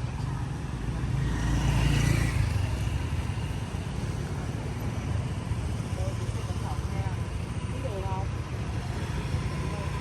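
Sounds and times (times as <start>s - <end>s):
traffic engine rumble: 0.0s - 10.0s.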